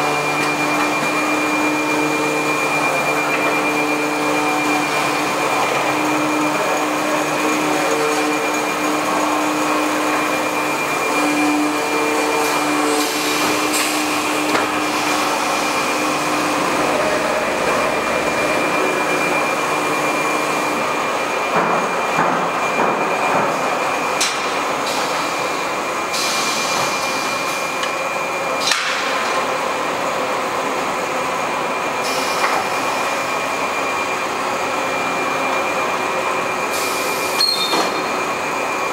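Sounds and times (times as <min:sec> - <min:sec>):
machine whirring with high whine: 0:00.0 - 0:38.9.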